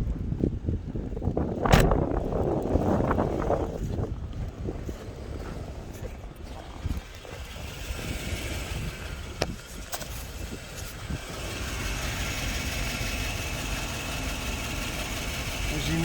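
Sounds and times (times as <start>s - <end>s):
car engine idling: 1.4s - 16.0s.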